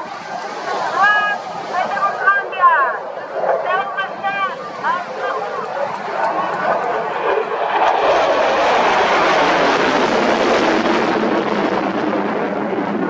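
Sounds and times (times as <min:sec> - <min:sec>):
fighter jet roaring past: 0:00.0 - 0:13.0.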